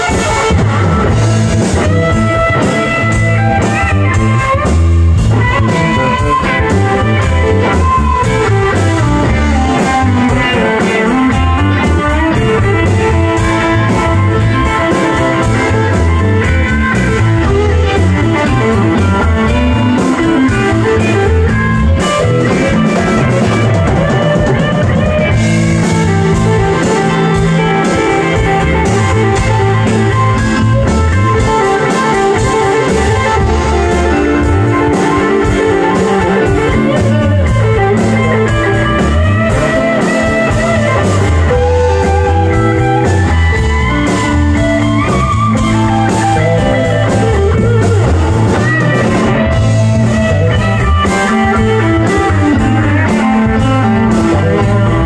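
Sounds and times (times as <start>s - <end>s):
electric guitar bending notes: 0.0s - 55.0s
live rock band playing: 0.0s - 55.0s
steady drum beat: 0.0s - 55.0s.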